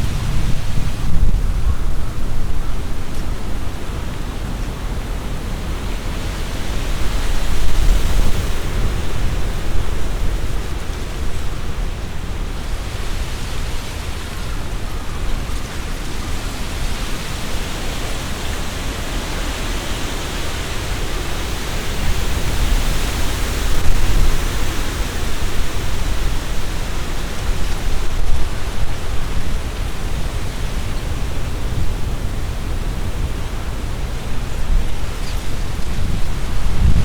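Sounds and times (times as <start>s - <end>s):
leaves rustling in wind: 0.0s - 37.0s
wind rumble on microphone: 0.0s - 37.0s.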